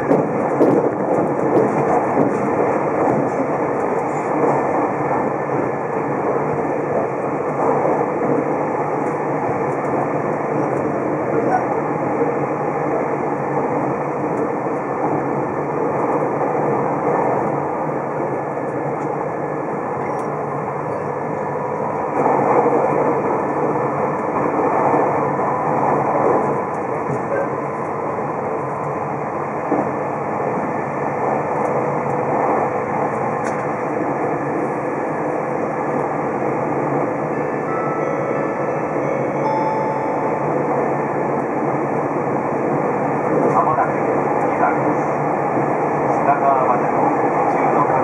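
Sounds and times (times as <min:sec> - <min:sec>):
train wheels on rail: 0:00.0 - 0:48.0.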